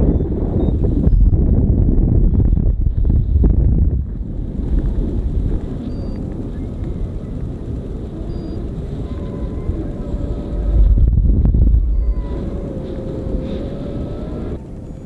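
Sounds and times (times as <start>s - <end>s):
faint thin whine: 0.0s - 15.0s
wind buffeting microphone: 0.0s - 15.0s.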